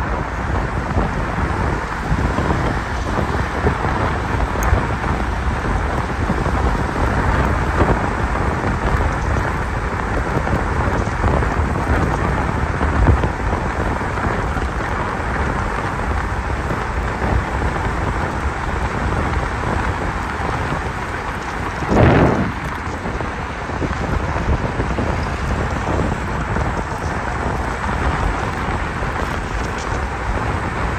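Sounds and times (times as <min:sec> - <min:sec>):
scooter tyres on asphalt: 0:00.0 - 0:30.9
wind buffeting microphone: 0:00.0 - 0:30.9.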